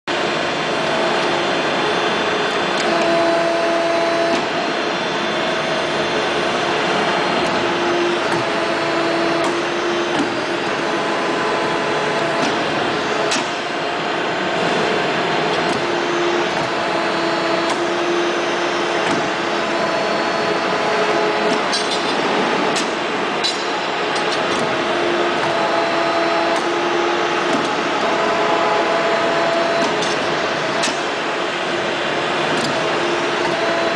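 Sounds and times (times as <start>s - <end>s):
hydraulic power unit noise: 0.1s - 33.9s
machine axis whines: 0.1s - 33.9s.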